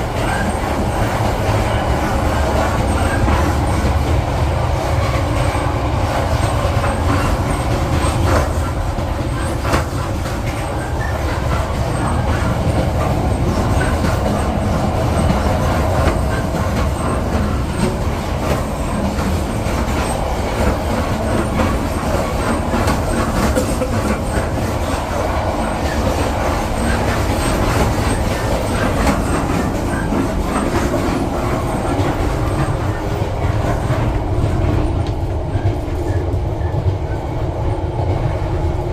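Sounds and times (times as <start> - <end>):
wheels clicking over rails: 0.0 - 37.1
train rumbling along track: 0.0 - 38.9.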